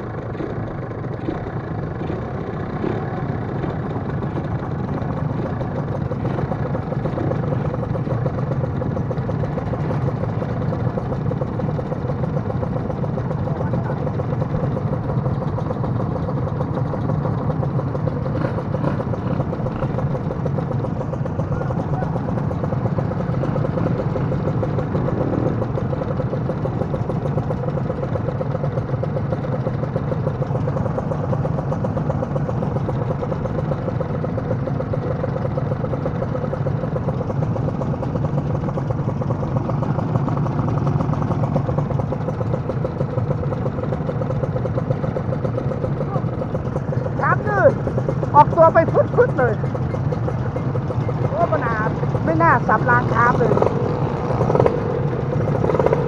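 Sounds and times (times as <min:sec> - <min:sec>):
two-stroke motorcycle engine running: 0:00.0 - 0:56.0.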